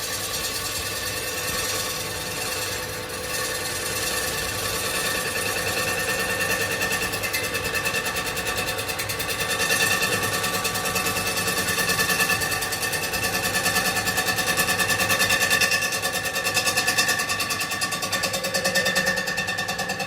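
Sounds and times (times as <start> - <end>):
power tool on metal rim: 0.0 - 20.0.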